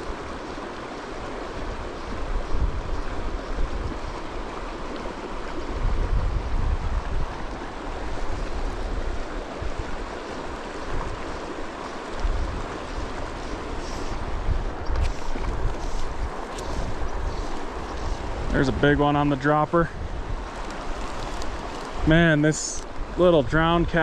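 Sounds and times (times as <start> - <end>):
river running over rocks: 0.0 - 24.0
wind buffeting microphone: 1.5 - 24.0.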